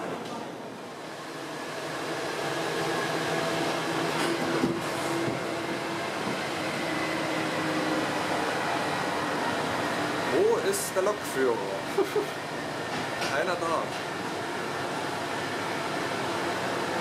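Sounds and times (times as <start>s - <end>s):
train running on track: 0.0s - 17.0s.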